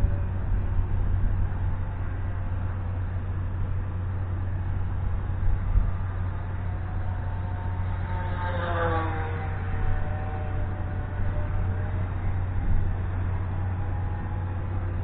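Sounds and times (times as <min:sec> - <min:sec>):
model airplane motor whining: 0:00.0 - 0:15.0
wind buffeting microphone: 0:00.0 - 0:15.0.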